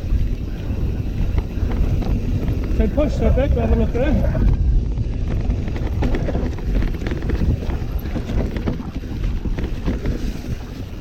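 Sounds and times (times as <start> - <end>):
bike rattling clicks and knocks: 0.0 - 11.0
tyres rumbling on dirt: 0.0 - 11.0
wind buffeting microphone: 0.0 - 11.0.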